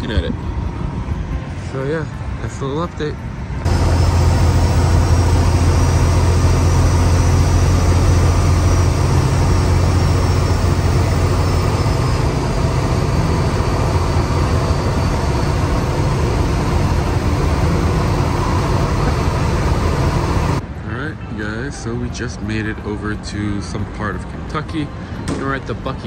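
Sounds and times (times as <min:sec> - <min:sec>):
diesel engine drone: 0:00.0 - 0:26.0
road and wind noise: 0:00.0 - 0:26.0.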